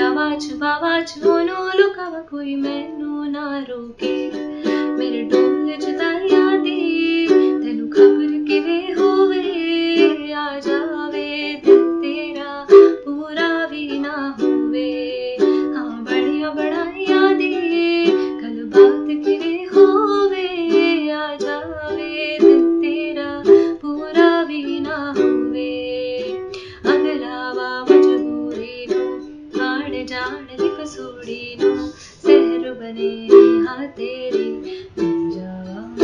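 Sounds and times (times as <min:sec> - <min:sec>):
ukulele strumming chords: 0:00.0 - 0:36.0
woman singing: 0:00.0 - 0:36.0.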